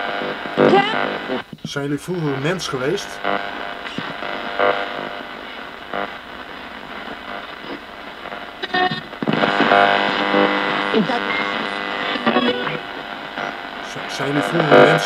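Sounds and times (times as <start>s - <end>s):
radio static: 0.0s - 15.0s
snatches of radio broadcast: 0.0s - 15.0s.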